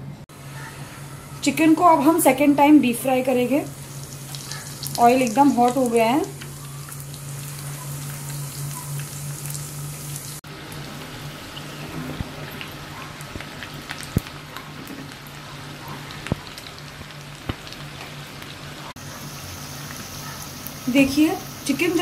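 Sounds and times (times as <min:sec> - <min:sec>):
chicken deep-frying in oil: 0:00.5 - 0:22.0.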